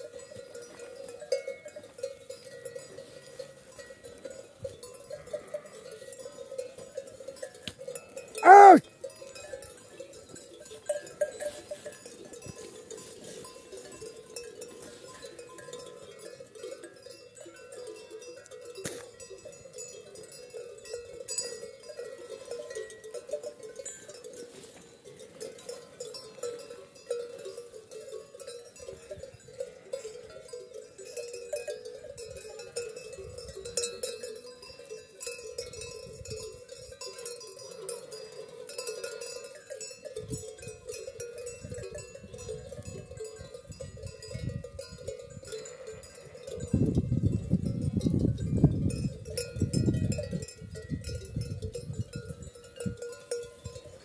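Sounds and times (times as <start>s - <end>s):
animal bells clanking: 0.0s - 54.0s.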